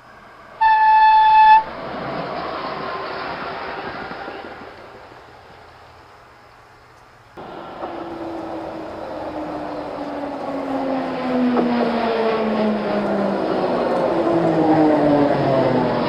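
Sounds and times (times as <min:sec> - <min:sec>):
streetcar running on rails: 0:00.0 - 0:16.0.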